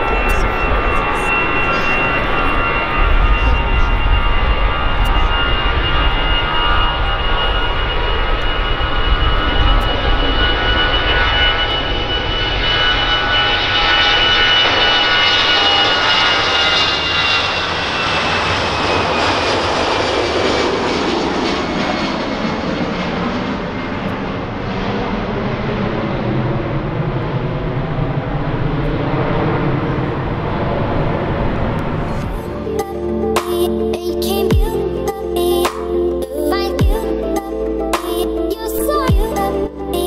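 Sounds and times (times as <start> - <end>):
jet airliner engines at takeoff: 0.0 - 40.0.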